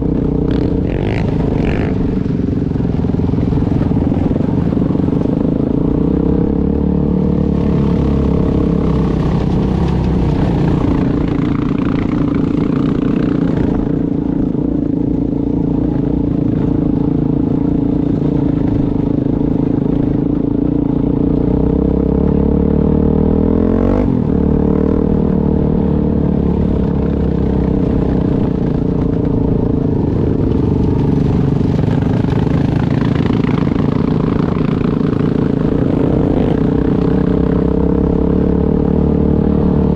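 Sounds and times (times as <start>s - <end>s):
off-road vehicle engine: 0.0s - 39.9s.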